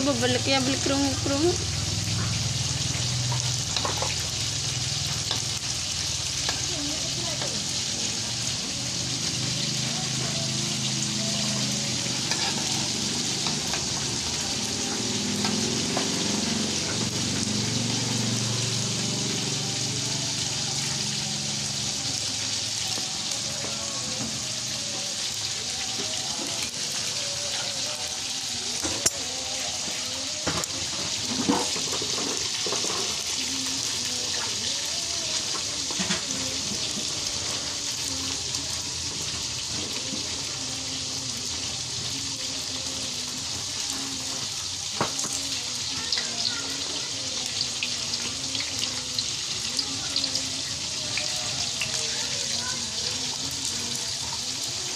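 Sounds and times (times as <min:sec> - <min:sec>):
food sizzling in hot oil: 0:00.0 - 0:54.9.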